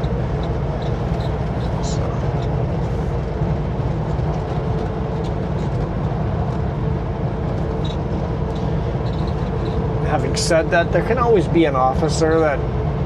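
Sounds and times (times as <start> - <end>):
road noise: 0.0 - 13.0
truck diesel engine cruising: 0.0 - 13.0.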